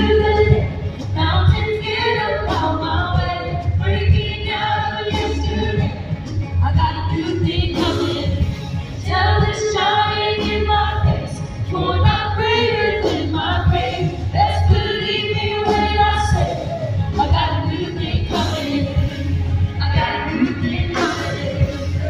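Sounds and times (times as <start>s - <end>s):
band playing: 0.0s - 22.0s
singers singing in parts: 0.0s - 22.0s
steady bass: 0.0s - 22.0s.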